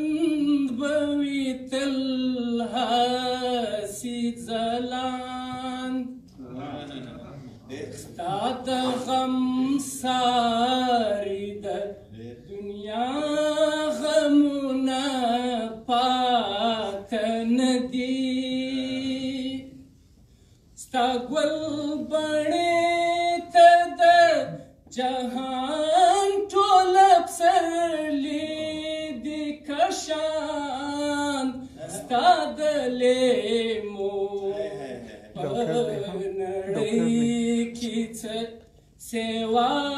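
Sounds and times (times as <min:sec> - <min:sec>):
man singing unaccompanied: 0:00.0 - 0:06.2, 0:08.1 - 0:19.8, 0:20.8 - 0:39.9.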